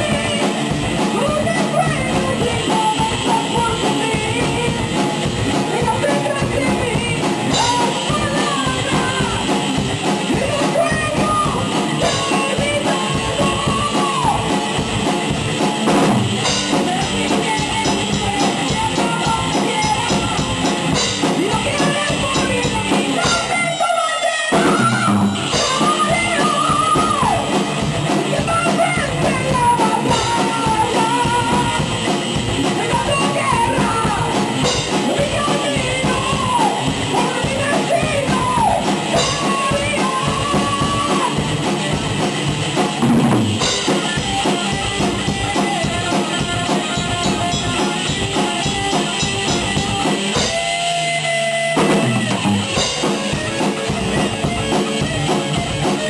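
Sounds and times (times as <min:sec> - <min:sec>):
electric guitars bending pitch: 0:00.0 - 0:23.8, 0:24.5 - 0:56.0
bass guitar: 0:00.0 - 0:56.0
drum kit steady beat: 0:00.0 - 0:56.0.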